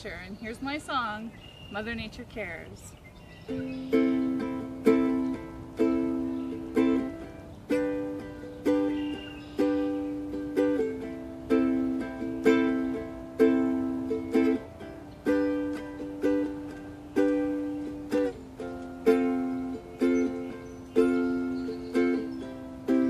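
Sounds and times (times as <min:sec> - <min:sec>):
ukulele strumming chords: 0:03.5 - 0:23.0.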